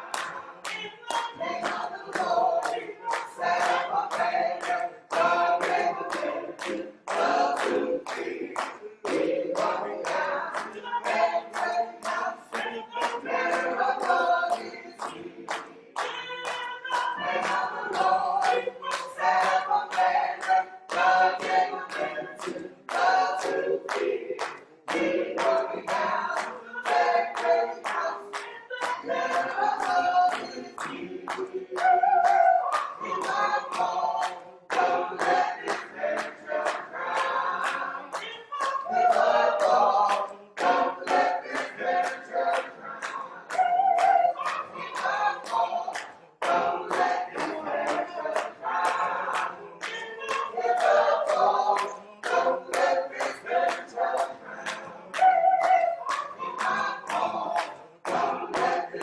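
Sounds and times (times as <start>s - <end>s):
gospel choir singing: 0.0s - 59.0s
handclaps: 0.0s - 59.0s.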